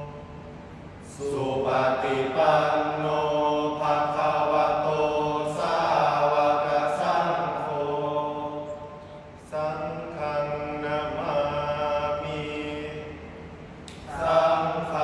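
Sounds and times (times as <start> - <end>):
men chanting in unison: 0.0 - 0.3, 1.0 - 13.4, 14.0 - 15.0.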